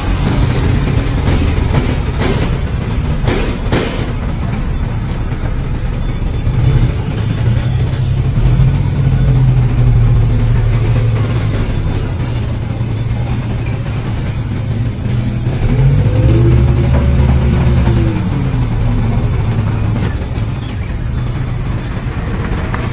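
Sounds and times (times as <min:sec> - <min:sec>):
wheel loader engine humming: 0:00.0 - 0:22.9.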